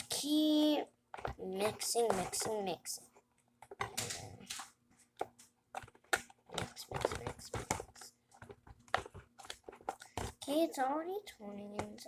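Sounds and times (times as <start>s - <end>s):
wooden spoon stirring slime: 1.2s - 2.8s, 3.6s - 12.0s.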